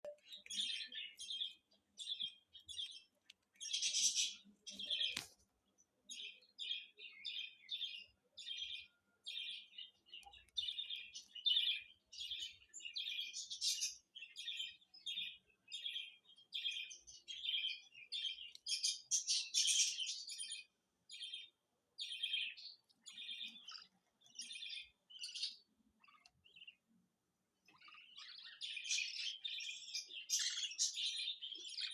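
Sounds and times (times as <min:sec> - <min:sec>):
budgerigar chicks chirping: 0:00.2 - 0:05.2, 0:06.1 - 0:26.9, 0:27.6 - 0:31.9.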